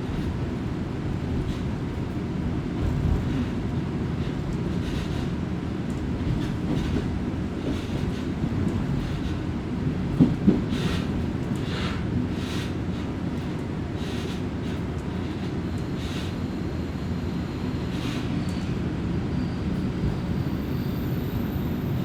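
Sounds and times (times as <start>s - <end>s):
railcar engine and wheels rumble: 0.0s - 22.0s.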